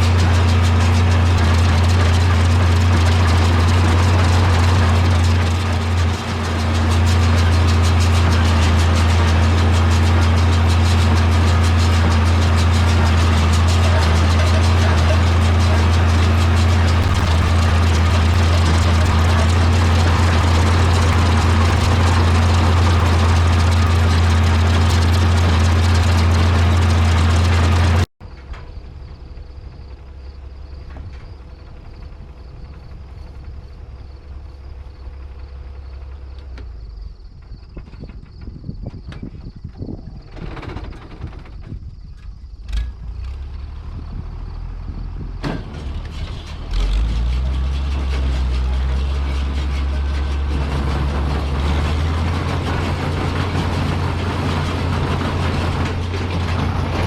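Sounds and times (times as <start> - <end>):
tractor engine humming: 0.0 - 38.5, 40.5 - 57.0.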